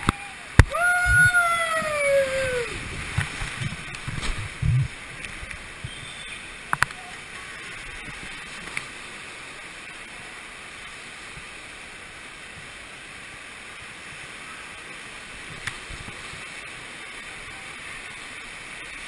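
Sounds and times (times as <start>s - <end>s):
water rushing and splashing: 0.0s - 19.0s.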